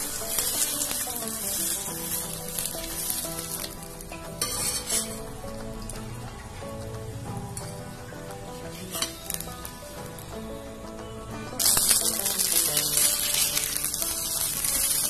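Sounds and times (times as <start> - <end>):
flatbread sizzling in oil: 0.0 - 15.0.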